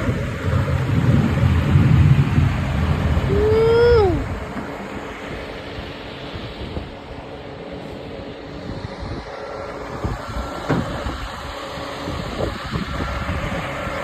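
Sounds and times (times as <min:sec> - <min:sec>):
road noise: 0:00.0 - 0:14.0
truck engine rumble: 0:00.0 - 0:14.0.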